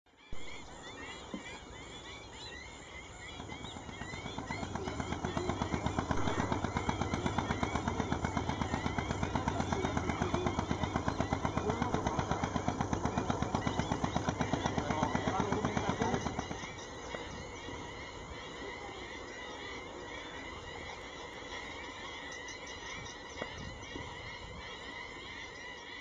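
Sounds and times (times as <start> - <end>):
boat engine thumping: 0.3 - 21.8.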